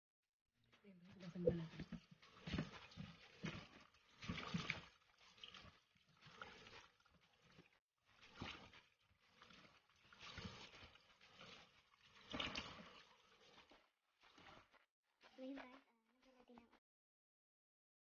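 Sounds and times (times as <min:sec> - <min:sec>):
tap water splashing and sloshing: 0:00.8 - 0:15.7.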